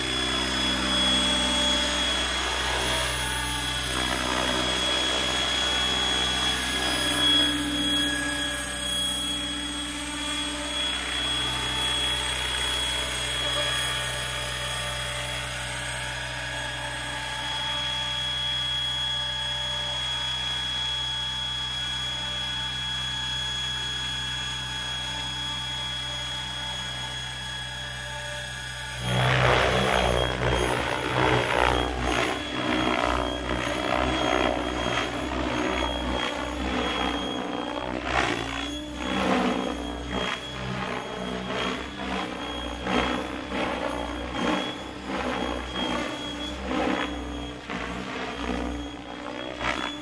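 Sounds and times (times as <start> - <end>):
rc helicopter motor and rotor whine: 0.0 - 50.0.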